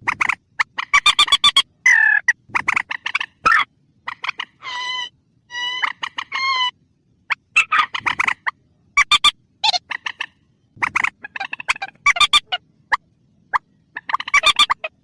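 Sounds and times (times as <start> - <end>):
bird calling with harsh clicking notes: 0.0 - 4.7, 5.5 - 15.0.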